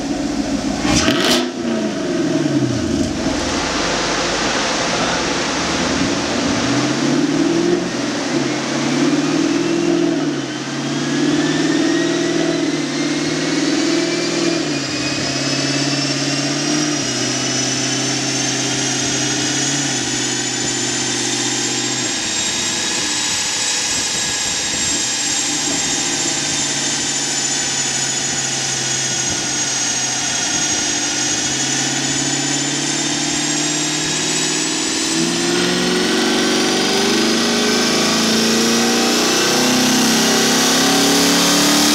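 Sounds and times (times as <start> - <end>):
car engine under load: 0.0 - 41.9
high whine: 0.0 - 41.9.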